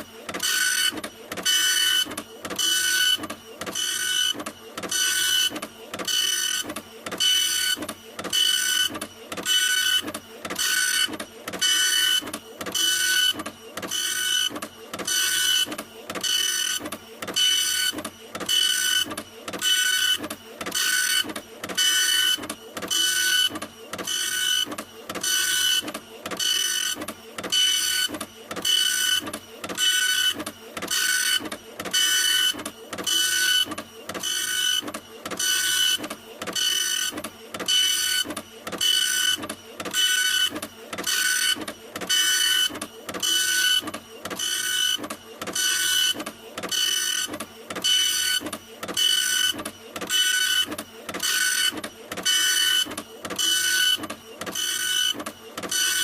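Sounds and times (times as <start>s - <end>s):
printer whirring with high whine: 0.0s - 56.0s.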